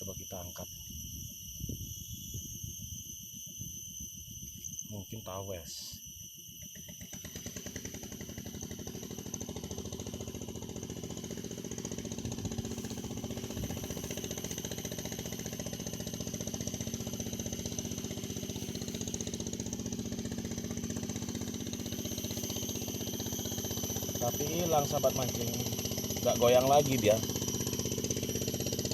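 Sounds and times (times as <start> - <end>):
fishing reel whirring: 0.0 - 28.9.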